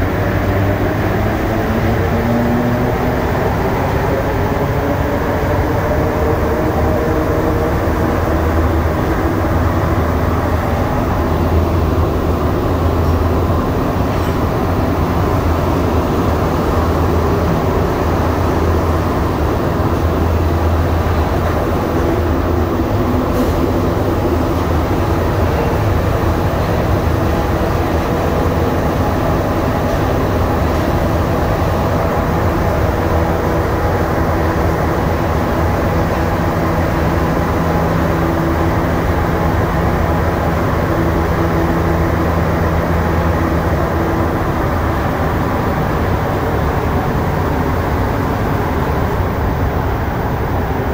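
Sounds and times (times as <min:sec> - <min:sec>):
subway train rumbling: 0:00.0 - 0:50.9.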